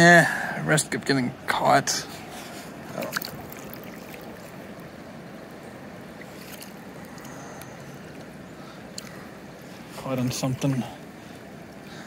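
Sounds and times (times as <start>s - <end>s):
river water rushing: 2.1s - 12.0s.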